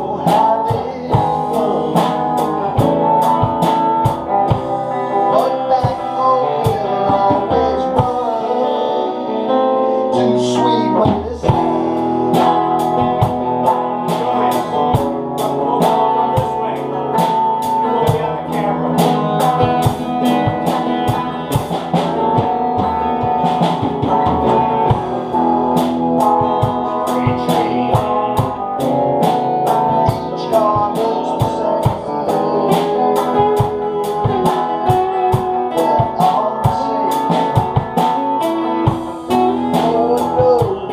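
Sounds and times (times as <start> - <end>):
guitar-led band music: 0.0 - 40.9.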